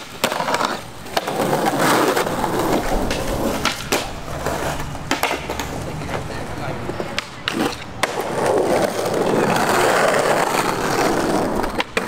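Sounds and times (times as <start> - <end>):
skateboard clacks: 0.0 - 12.0
skateboard wheels rolling on stone: 0.0 - 12.0.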